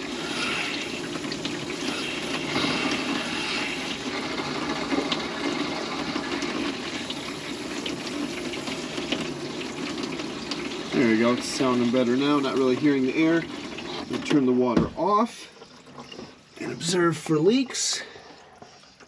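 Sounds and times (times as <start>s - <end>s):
water running through pipes: 0.0s - 19.0s.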